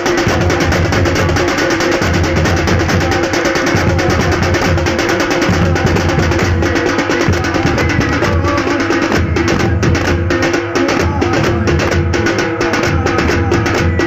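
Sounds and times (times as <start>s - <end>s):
frame drums beaten in rhythm: 0.0s - 14.0s.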